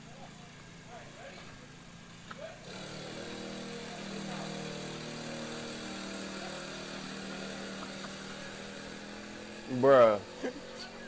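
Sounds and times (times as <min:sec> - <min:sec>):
faint voices: 0:00.0 - 0:11.0
low mechanical hum: 0:00.0 - 0:11.0.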